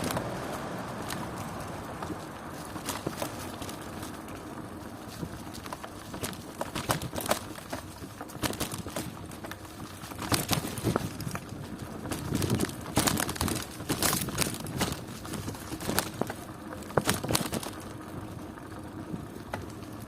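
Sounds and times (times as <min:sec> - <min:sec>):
bicycle clattering and knocking: 0:00.0 - 0:20.0.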